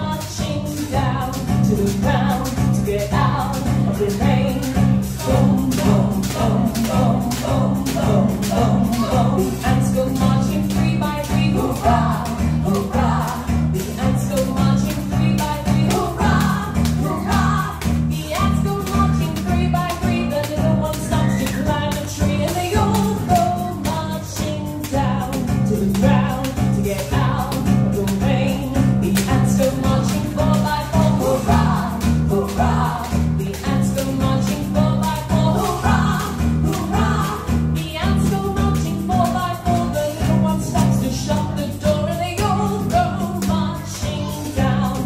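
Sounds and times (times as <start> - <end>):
person singing: 0.0 - 45.0
rhythmic bass beat: 0.0 - 45.0.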